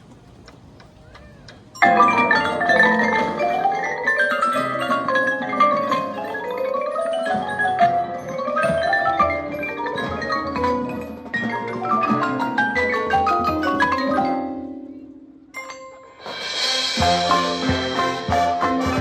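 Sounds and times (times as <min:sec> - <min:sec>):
marching band mallet percussion: 0:00.0 - 0:19.0.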